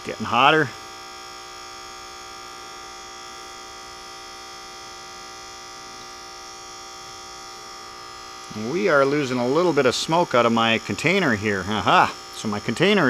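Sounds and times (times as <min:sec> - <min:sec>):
air pump electric hum: 0:00.0 - 0:13.0.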